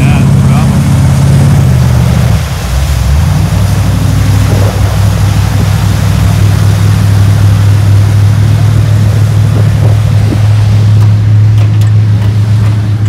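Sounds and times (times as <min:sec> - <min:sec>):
buggy engine under load: 0:00.0 - 0:13.0
tires splashing mud and water: 0:00.0 - 0:13.0.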